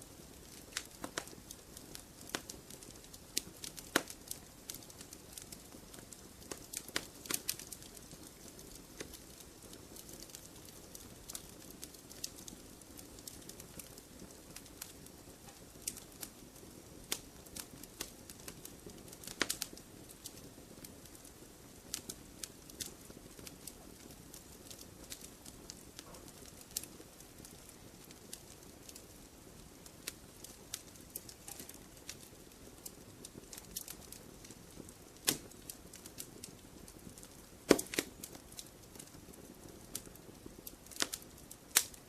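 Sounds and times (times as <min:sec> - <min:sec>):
campfire crackling and popping: 0:00.0 - 0:42.0.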